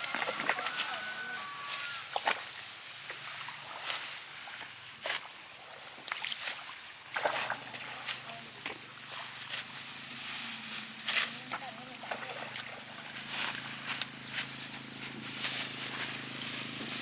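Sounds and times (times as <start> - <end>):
rice stalks rustling and crunching: 0.0 - 17.0.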